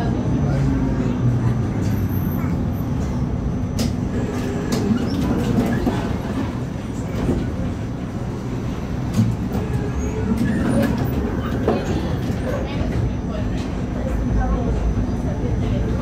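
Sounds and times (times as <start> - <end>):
tram rumble and rattle: 0.0 - 16.0.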